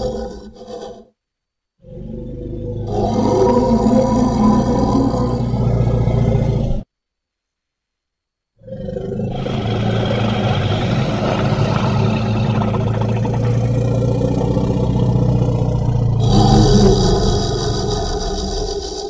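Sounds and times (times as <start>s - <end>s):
creature growl: 0.0s - 1.1s, 1.8s - 6.8s, 8.6s - 19.0s.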